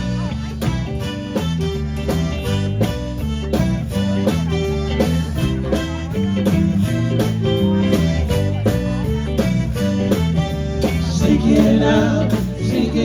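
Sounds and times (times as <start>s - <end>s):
live country-blues band: 0.0s - 13.0s.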